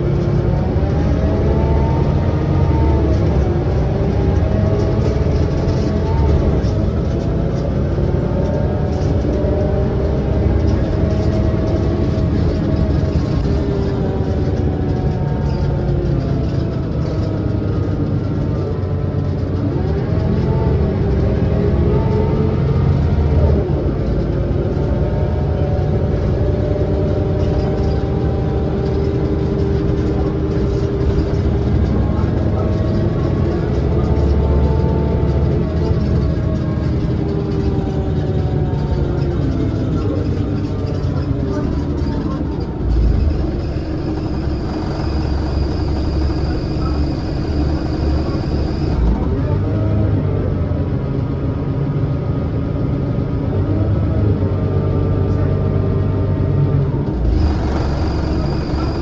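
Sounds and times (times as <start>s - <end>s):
bus diesel engine under load: 0.0s - 59.0s
road rumble: 0.0s - 59.0s.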